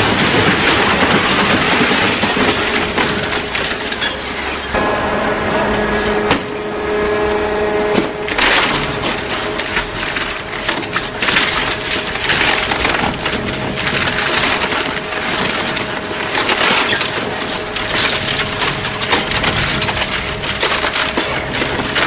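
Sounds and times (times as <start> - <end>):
wood cracking and snapping: 0.0 - 4.4, 8.0 - 22.0
faint machine hum: 0.0 - 22.0.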